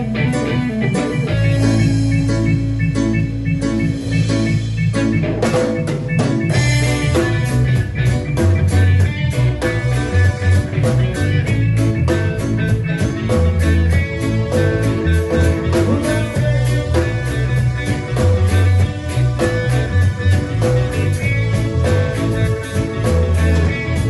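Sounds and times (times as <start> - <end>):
bass: 0.0 - 24.0
drum kit beat: 0.0 - 24.0
guitar: 0.0 - 24.0.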